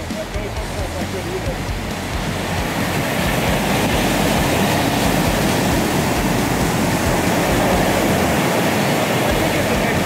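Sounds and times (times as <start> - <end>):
ocean surf breaking on rocks: 0.0 - 10.0.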